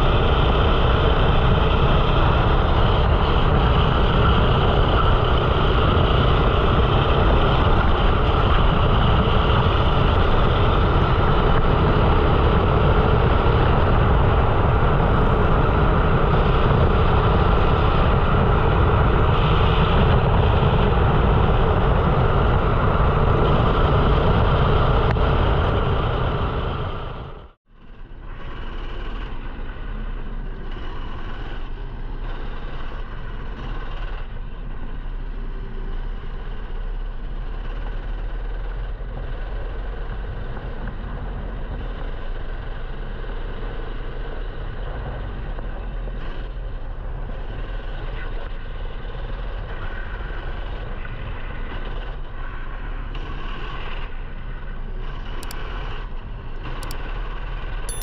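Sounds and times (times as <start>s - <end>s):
kart engine running: 0.0s - 58.0s
wind rumble: 0.0s - 58.0s.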